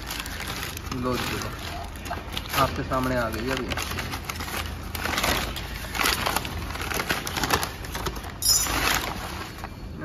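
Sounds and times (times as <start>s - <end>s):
paper tearing and crumpling: 0.0s - 9.8s.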